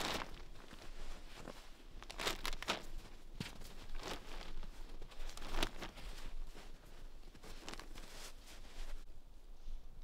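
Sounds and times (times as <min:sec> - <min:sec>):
footsteps crunching in snow: 0:00.0 - 0:09.1.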